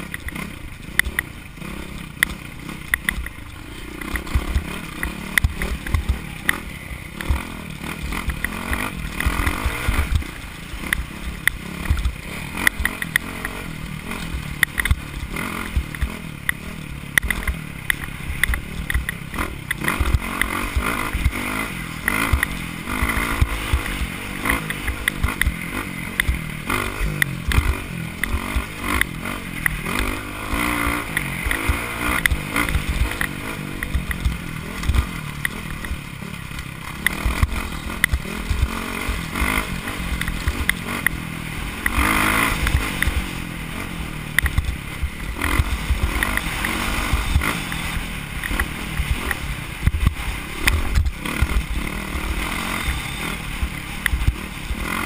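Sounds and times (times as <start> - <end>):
bike clattering over bumps: 0.0 - 52.4
dirt bike engine revving: 0.0 - 55.0.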